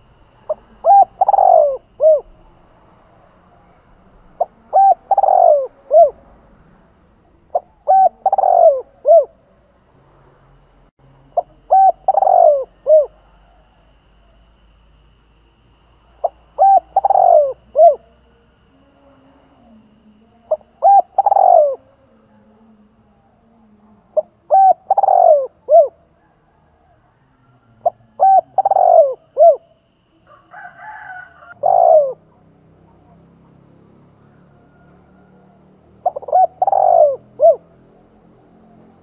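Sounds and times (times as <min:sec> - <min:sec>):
dove cooing: 0:00.0 - 0:09.7, 0:10.6 - 0:39.0.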